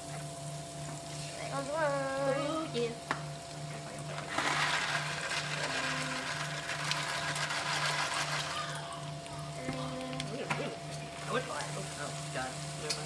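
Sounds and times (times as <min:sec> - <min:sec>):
steak sizzling in frying pan: 0:00.0 - 0:13.0.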